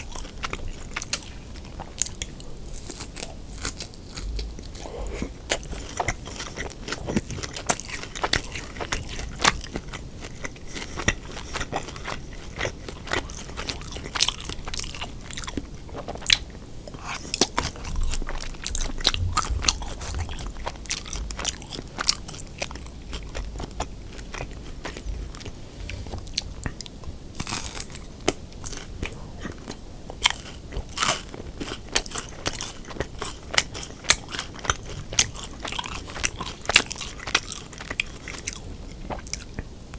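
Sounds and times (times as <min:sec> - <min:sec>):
person chewing crisp food: 0:00.0 - 0:39.7.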